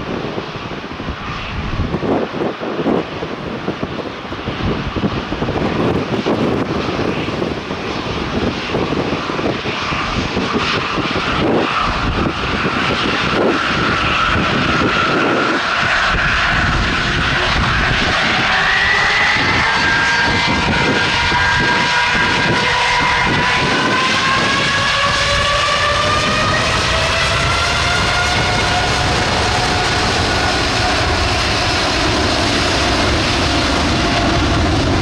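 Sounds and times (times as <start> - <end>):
jet engines running: 0.0 - 35.0
rising engine whine: 0.0 - 35.0.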